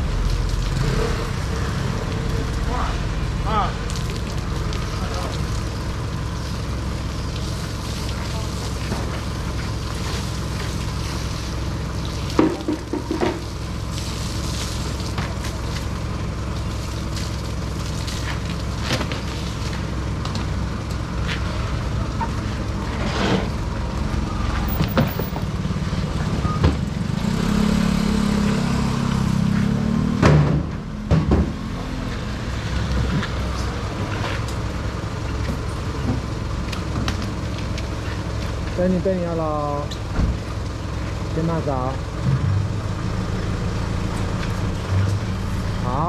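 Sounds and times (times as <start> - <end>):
truck engine idling: 0.0 - 27.4, 30.7 - 46.0
deep engine drone: 0.0 - 46.0.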